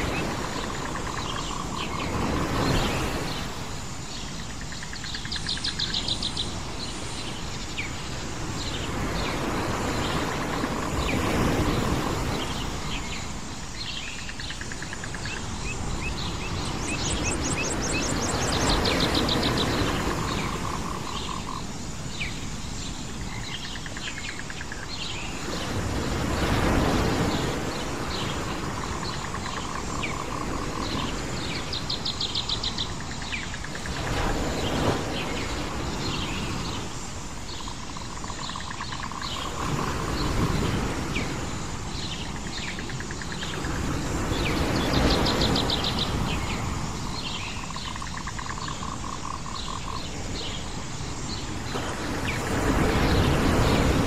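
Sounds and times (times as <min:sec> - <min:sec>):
birds chirping and trilling: 0:00.0 - 0:54.0
waves washing in: 0:00.0 - 0:54.0.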